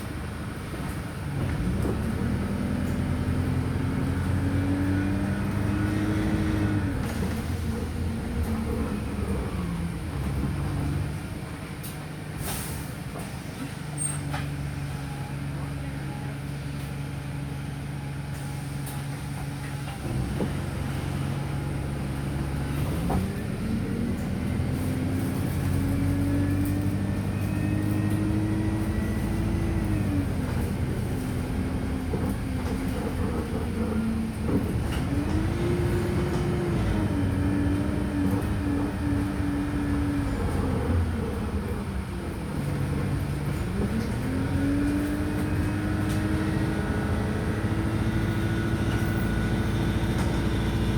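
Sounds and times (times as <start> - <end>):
bus diesel engine: 0.0 - 50.9.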